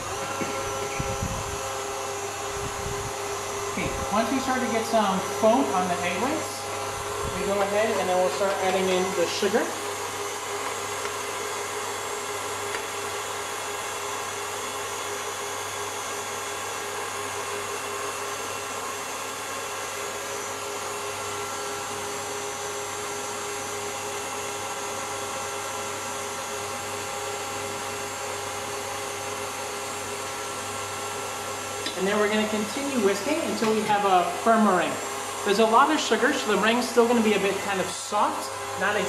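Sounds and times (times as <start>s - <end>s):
stand mixer motor whine: 0.0s - 39.0s.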